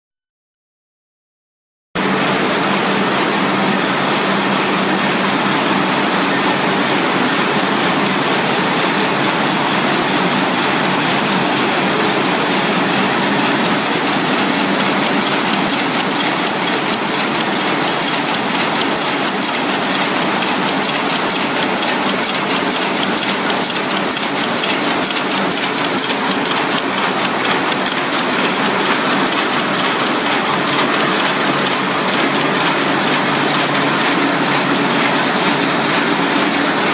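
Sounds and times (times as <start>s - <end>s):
paper bag machine clatter: 6.4s - 36.9s.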